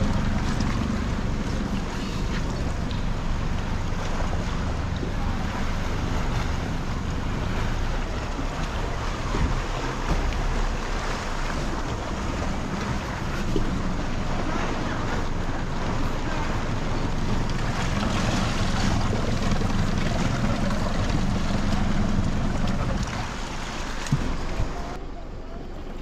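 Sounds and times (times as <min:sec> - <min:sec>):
motorboat engine running: 0:00.0 - 0:26.0
water rushing along hull: 0:00.0 - 0:26.0.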